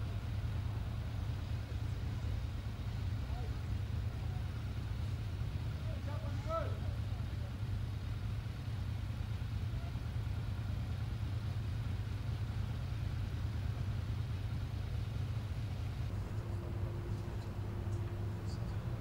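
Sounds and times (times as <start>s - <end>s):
faint steady tone: 0.0s - 19.0s
traffic engines idling: 0.0s - 19.0s.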